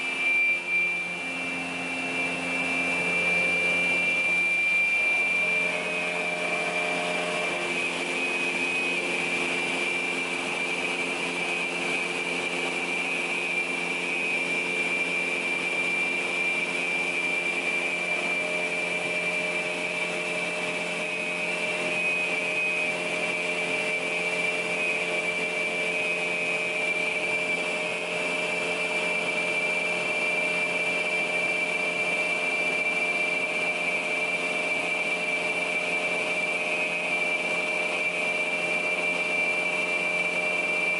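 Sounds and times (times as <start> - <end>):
low mechanical hum: 0.0 - 40.9
saw machine whining: 0.0 - 40.9.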